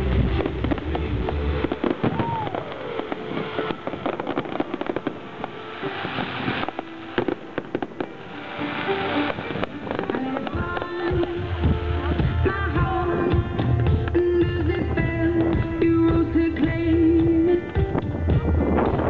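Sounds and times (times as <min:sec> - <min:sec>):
fireworks hissing crackle: 0:00.0 - 0:19.0
fireworks popping and banging: 0:00.0 - 0:19.0.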